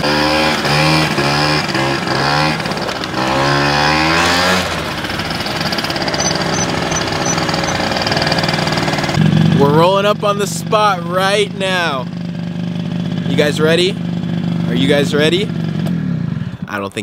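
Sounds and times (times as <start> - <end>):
moped engine revving: 0.0 - 9.8, 11.6 - 16.7.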